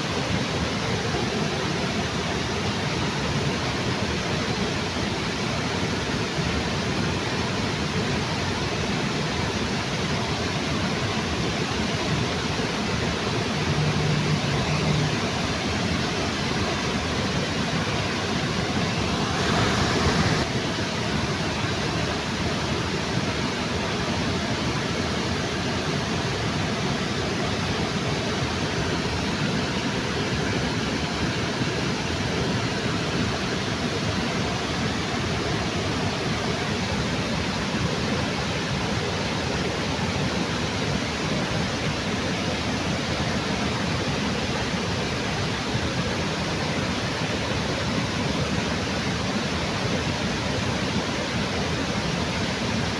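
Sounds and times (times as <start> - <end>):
waterfall rushing: 10.0 - 52.9.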